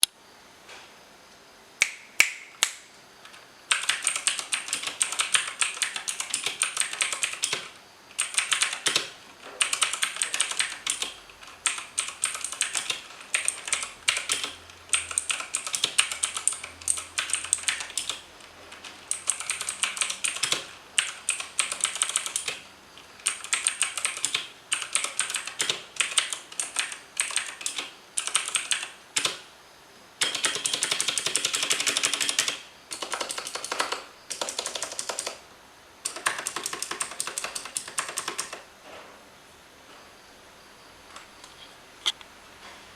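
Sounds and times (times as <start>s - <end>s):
clicky mechanical keyboard typing: 2.6s - 29.4s, 30.2s - 35.4s, 36.0s - 38.6s.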